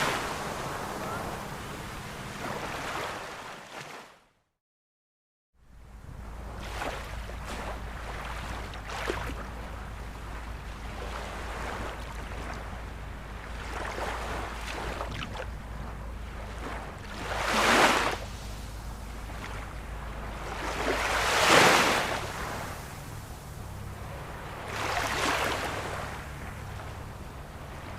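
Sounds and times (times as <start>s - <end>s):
ocean surf washing: 0.0s - 4.0s, 5.8s - 27.9s
waves breaking: 0.0s - 4.2s, 5.8s - 27.9s.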